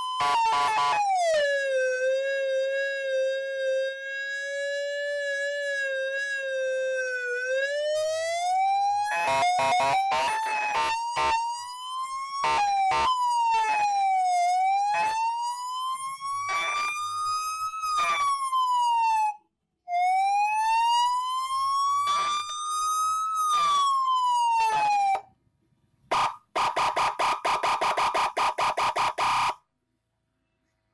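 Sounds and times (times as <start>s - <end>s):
fast pulsing siren tone: 0.0s - 25.2s, 26.1s - 29.6s
wailing police siren: 0.0s - 25.3s, 26.1s - 29.6s.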